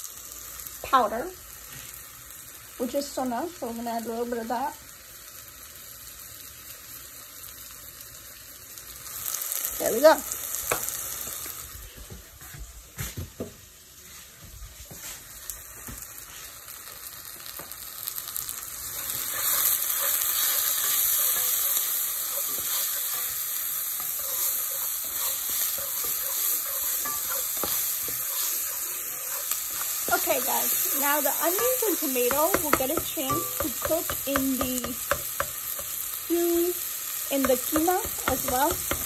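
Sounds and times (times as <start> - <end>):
onions frying and sizzling: 0.0 - 39.0.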